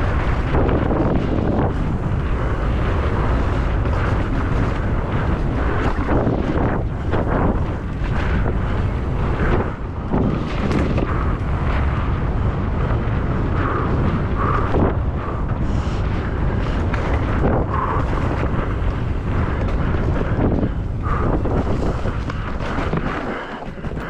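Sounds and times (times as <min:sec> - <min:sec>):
bike knocks and rattles: 0:00.0 - 0:24.0
constant low rumble: 0:00.0 - 0:24.0
wind buffeting microphone: 0:00.0 - 0:24.0.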